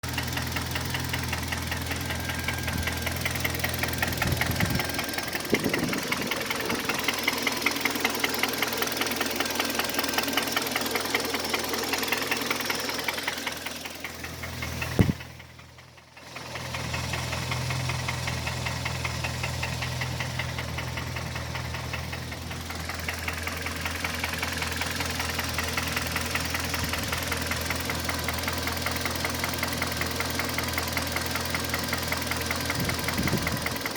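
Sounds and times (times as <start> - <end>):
engine running with knock: 0.0 - 33.9.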